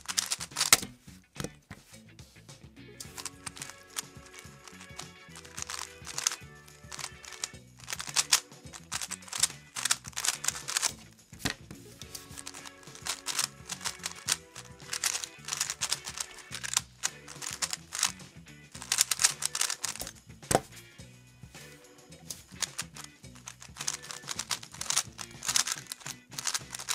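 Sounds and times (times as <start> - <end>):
rapid clicking of cube layers turning: 0.0 - 0.9, 3.0 - 20.8, 22.3 - 26.9
background music: 0.0 - 26.9.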